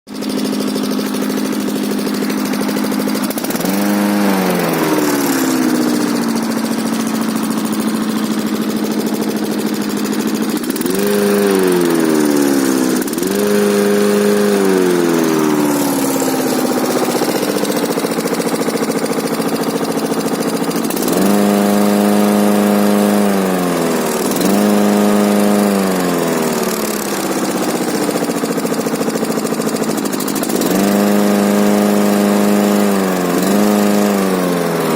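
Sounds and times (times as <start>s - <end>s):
engine idling and revving: 0.1s - 34.9s.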